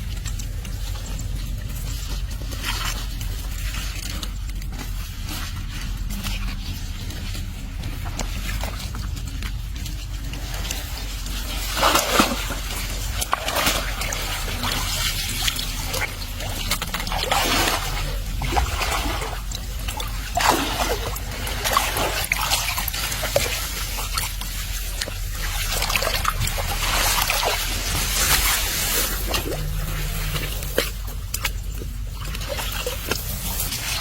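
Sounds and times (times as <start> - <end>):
shallow water splashing: 0.0 - 34.0.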